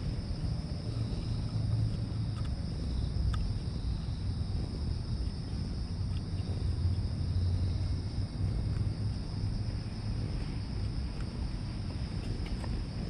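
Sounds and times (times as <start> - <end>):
high drone of insects: 0.0 - 13.0.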